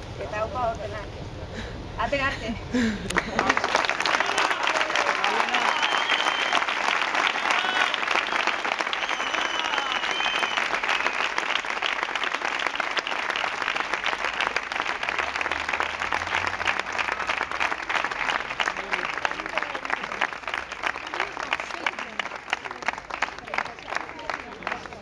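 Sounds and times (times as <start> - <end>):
crowd applauding: 3.1 - 25.0.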